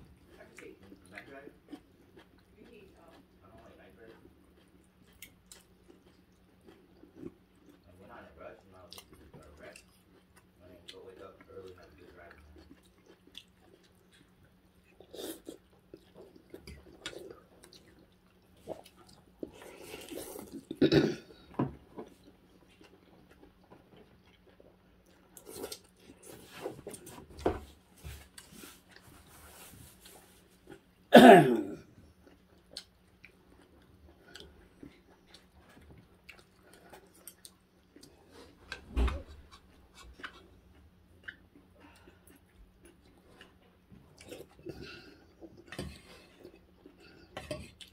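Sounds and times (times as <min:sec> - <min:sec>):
chewing and slurping noodles: 0:00.1 - 0:03.4, 0:04.1 - 0:07.9, 0:08.8 - 0:20.8, 0:21.8 - 0:27.4, 0:32.1 - 0:47.9.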